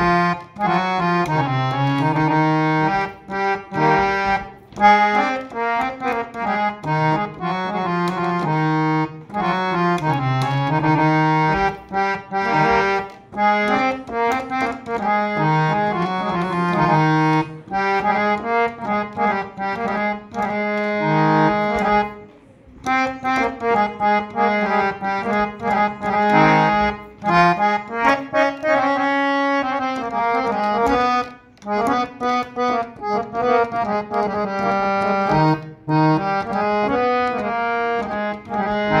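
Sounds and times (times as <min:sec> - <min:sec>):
harmonium melody over drone: 0:00.0 - 0:39.0.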